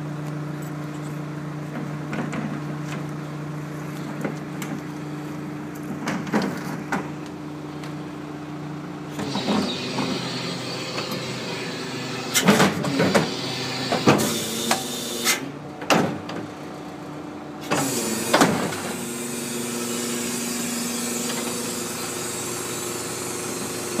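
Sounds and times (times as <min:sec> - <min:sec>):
truck engine and hydraulic hum: 0:00.0 - 0:24.0.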